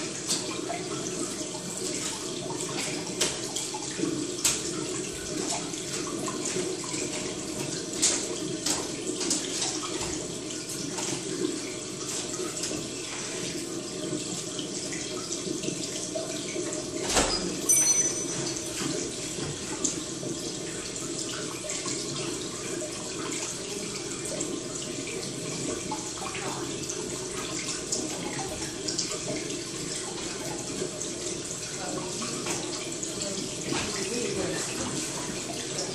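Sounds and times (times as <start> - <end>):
running water: 0.0 - 35.9.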